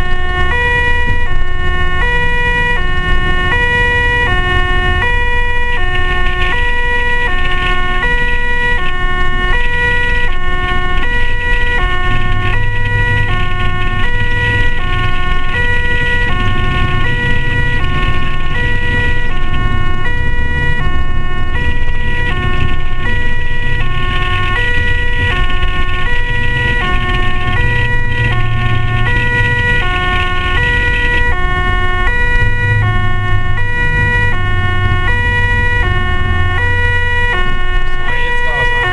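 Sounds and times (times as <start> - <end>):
engine and tyres rumbling: 0.0 - 38.9
two-tone ambulance siren: 0.0 - 38.9.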